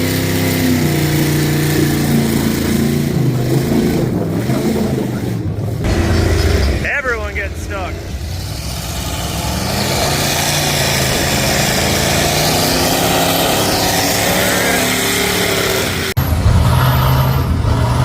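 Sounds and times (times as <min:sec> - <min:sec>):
engine at high revs: 0:00.0 - 0:18.0
truck engine revving: 0:00.0 - 0:18.0.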